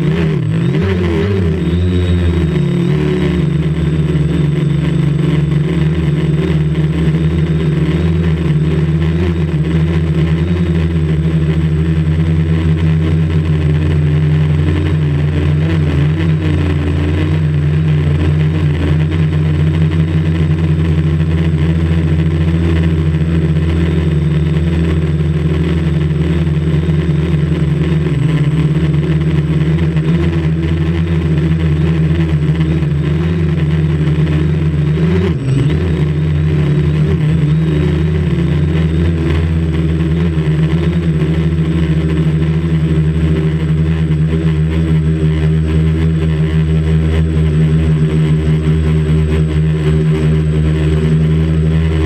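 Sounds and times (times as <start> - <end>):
drone propellers buzzing: 0.0 - 52.0.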